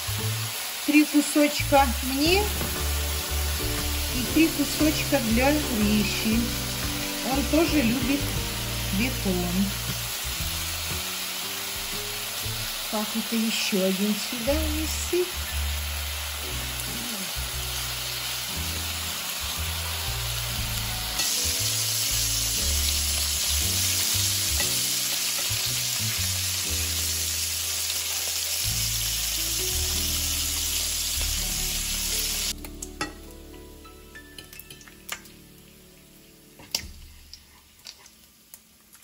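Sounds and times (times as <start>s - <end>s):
bacon sizzling in a frying pan: 0.0s - 39.0s.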